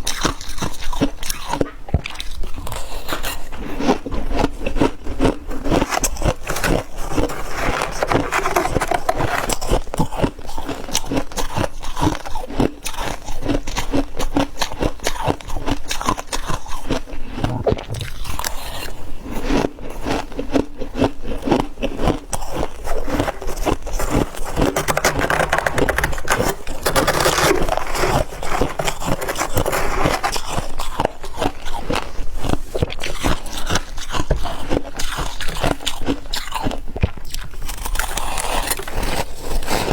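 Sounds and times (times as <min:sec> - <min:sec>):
chewing frost crunching: 0:00.0 - 0:39.9.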